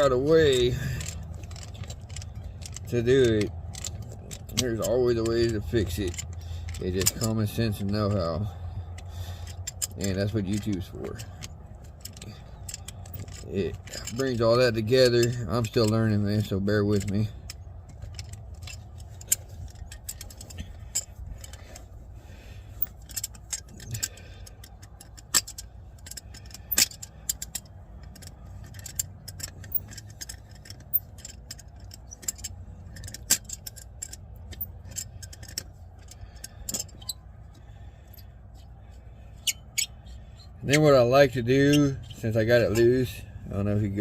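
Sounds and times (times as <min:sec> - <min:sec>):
metal tools clicking and clinking: 0:00.0 - 0:44.0.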